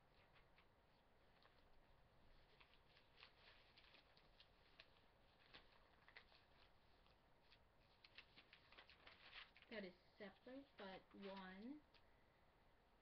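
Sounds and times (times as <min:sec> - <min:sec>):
paper sheets rustling: 0:00.1 - 0:11.8.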